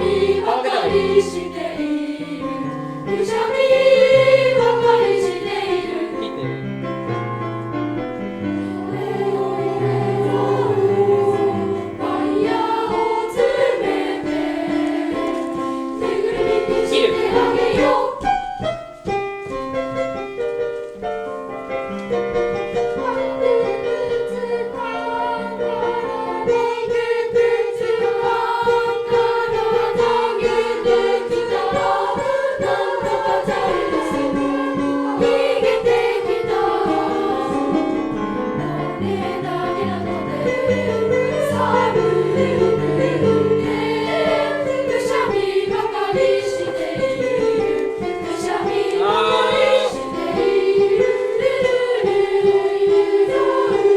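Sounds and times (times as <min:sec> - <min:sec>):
choir singing: 0:00.0 - 0:06.6, 0:08.5 - 0:18.5, 0:22.7 - 0:53.9
piano accompaniment: 0:00.0 - 0:53.9.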